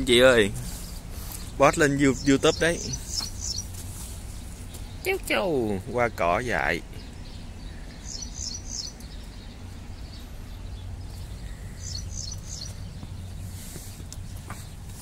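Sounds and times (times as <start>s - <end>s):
low outdoor rumble: 0.0s - 15.0s
small bird chirping: 0.0s - 15.0s.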